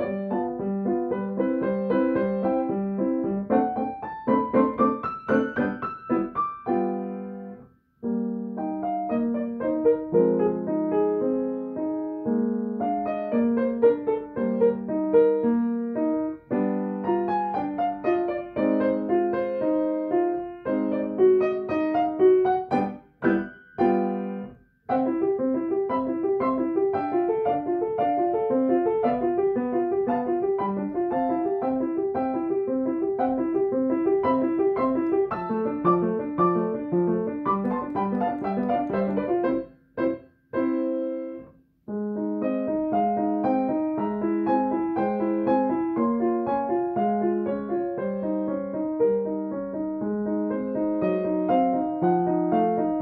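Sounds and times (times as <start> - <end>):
piano played slowly: 0.0 - 53.0.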